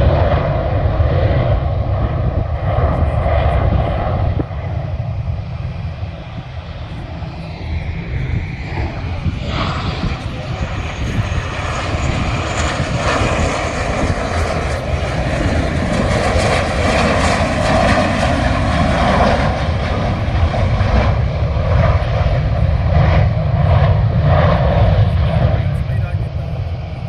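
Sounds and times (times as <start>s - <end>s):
aeroplane engine rumble: 0.0s - 27.0s.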